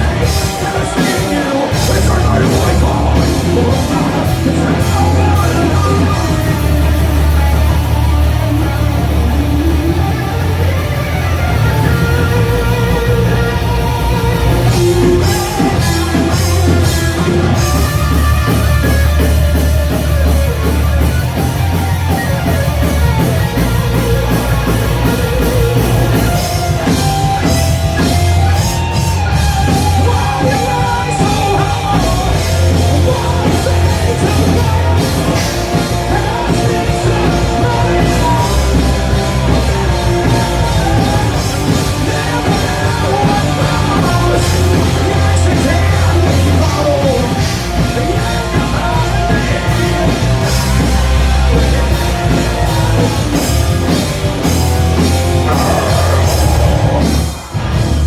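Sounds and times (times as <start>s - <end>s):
metal band playing live: 0.0s - 58.0s
yelled vocals: 0.0s - 58.0s.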